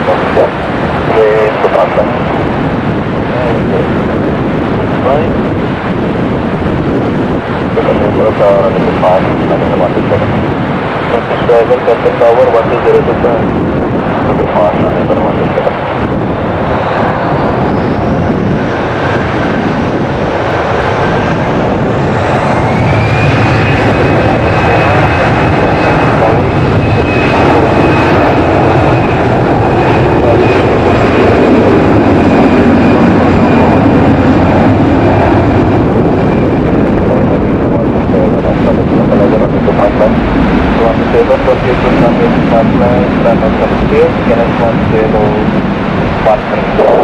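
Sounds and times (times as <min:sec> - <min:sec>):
jet engine whine: 0:00.0 - 0:47.0
jet engines roaring: 0:00.0 - 0:47.0.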